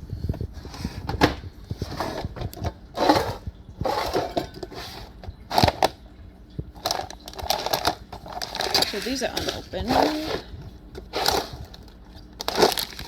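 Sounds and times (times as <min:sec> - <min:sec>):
packaging rustling and crinkling: 0:00.3 - 0:06.0, 0:06.6 - 0:13.0.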